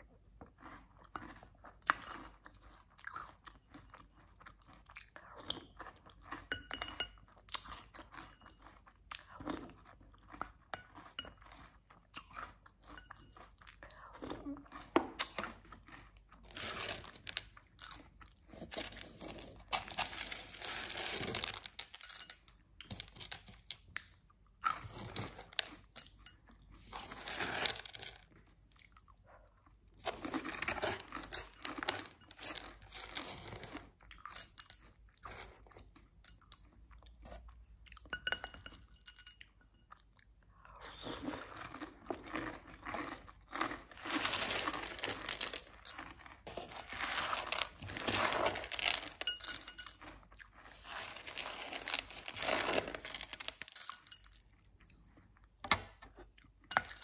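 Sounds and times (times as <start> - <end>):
crunching and chewing cereal: 0.0 - 57.0.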